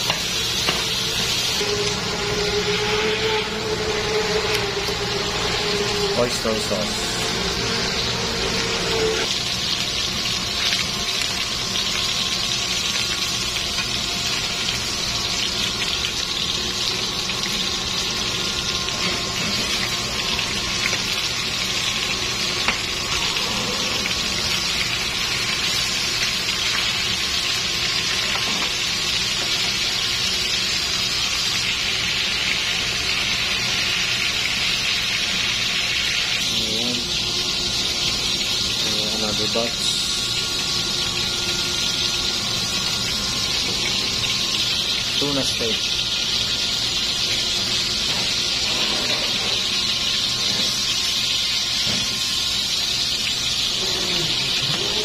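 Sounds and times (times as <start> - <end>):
fish sizzling in hot oil: 0.0 - 55.0.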